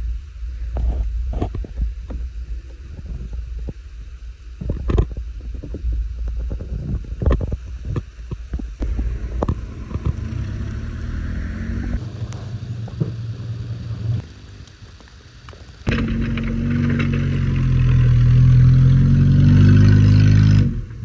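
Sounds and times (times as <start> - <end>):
motor engine humming: 0.4 - 21.0.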